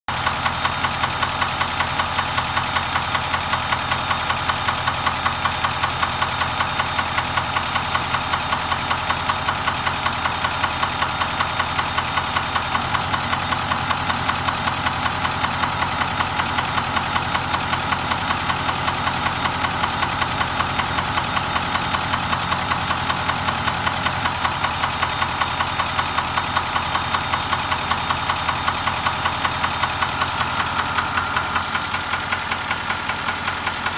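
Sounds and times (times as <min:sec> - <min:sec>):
engine knocking: 0:00.1 - 0:33.9
truck engine idling: 0:00.1 - 0:33.9.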